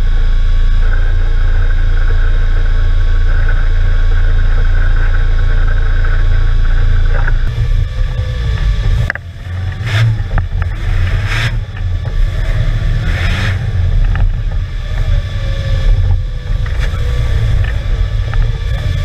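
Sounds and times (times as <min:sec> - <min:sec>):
engine running hard: 0:00.0 - 0:19.0.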